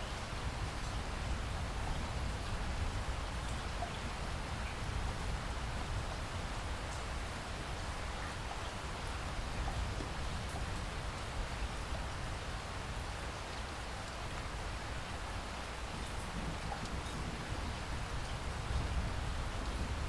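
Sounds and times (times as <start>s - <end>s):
scattered raindrops: 0.0s - 20.0s
steady rain falling: 0.0s - 20.0s.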